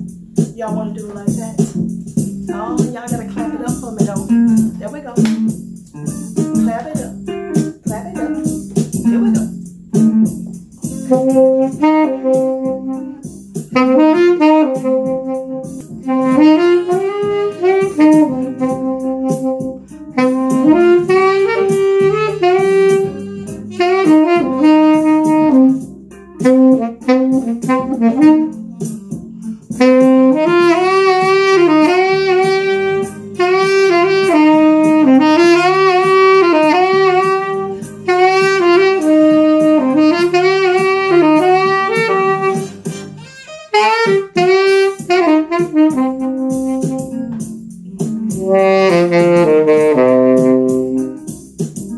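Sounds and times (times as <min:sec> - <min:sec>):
tenor saxophone melody: 0:01.8 - 0:51.9.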